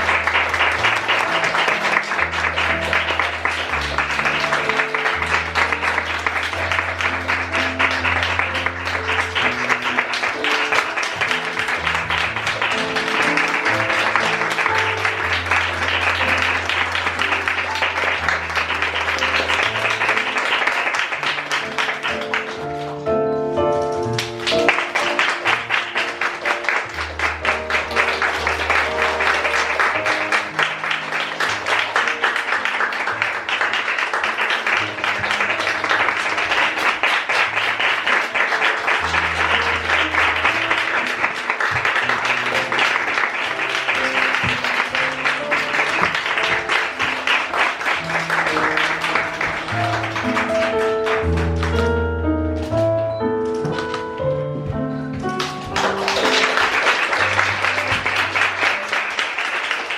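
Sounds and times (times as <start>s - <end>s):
audience applauding: 0.0s - 52.8s, 53.4s - 54.4s, 55.0s - 59.9s
curtain-call music with bass: 0.0s - 59.0s.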